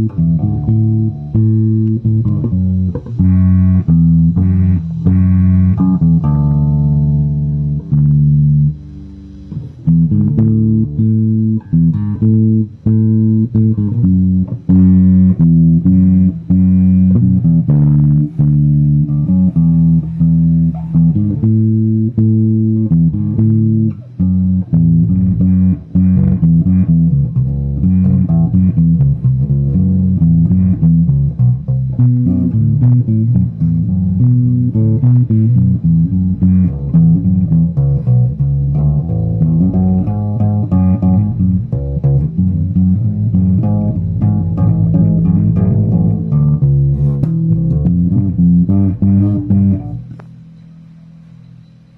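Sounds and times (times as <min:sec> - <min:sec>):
electric bass guitar plucked notes: 0:00.0 - 0:51.9.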